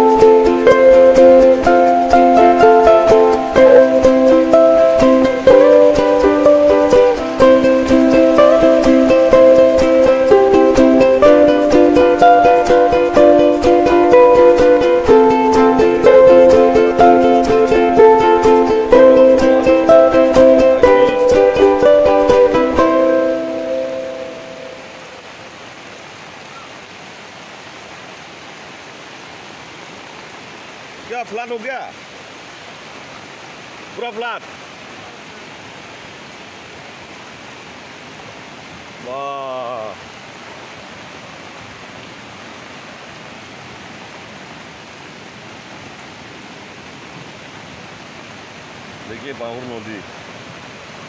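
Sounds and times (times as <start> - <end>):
floodwater rushing down a street: 0.0 - 51.0
heavy rain: 0.0 - 51.0.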